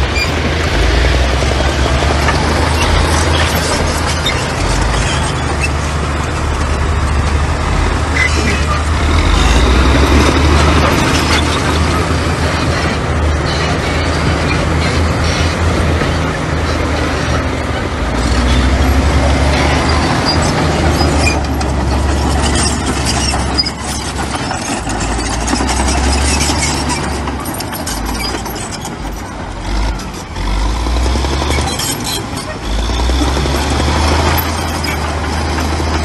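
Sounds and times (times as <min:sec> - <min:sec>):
metallic clanks and squeaks: 0:00.0 - 0:00.5, 0:01.7 - 0:36.0
heavy diesel machinery engine: 0:00.0 - 0:36.0.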